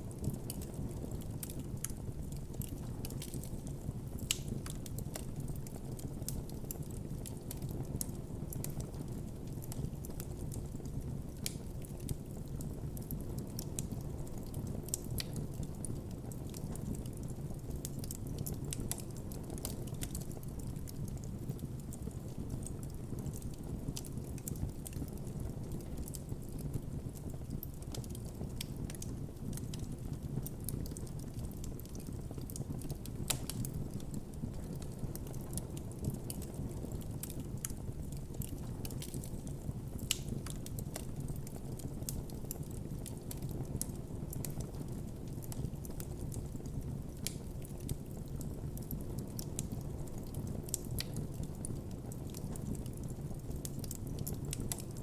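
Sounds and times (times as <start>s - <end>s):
burning wood crackling: 0.1s - 55.0s.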